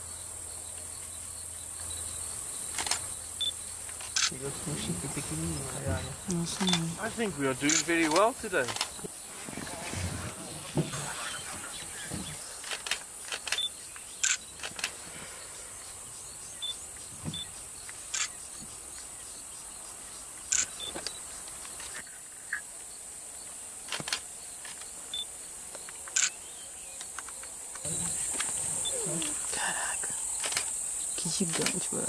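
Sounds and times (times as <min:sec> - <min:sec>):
outdoor background hiss: 0:00.0 - 0:32.0.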